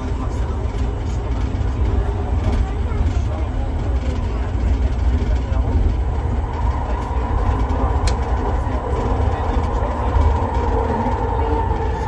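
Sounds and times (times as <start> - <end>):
train low rumble: 0.0 - 12.0
train whine: 0.0 - 12.0.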